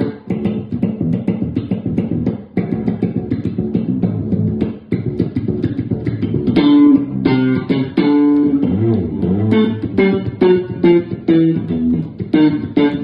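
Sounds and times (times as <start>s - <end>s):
bass guitar plucked notes: 0.0s - 13.0s.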